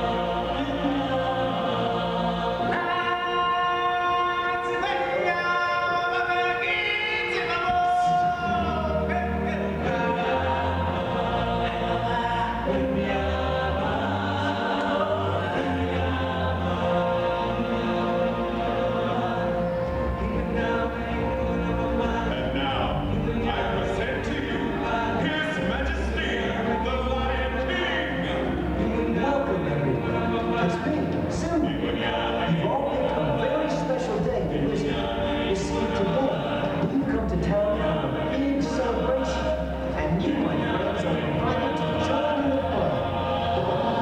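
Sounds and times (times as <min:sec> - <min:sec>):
choir singing held notes: 0:00.0 - 0:44.0
musical backing: 0:00.0 - 0:44.0.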